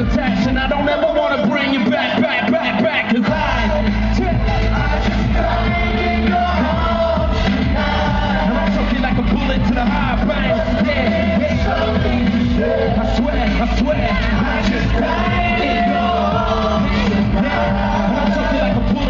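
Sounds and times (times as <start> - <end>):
live pop music with singing: 0.0 - 19.0.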